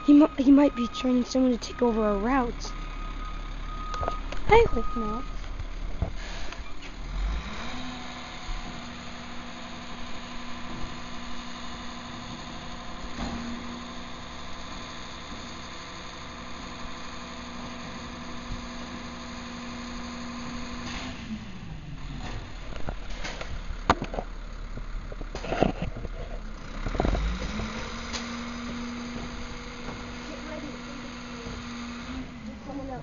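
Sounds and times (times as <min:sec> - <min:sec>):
garbage truck diesel engine: 0:00.0 - 0:33.0.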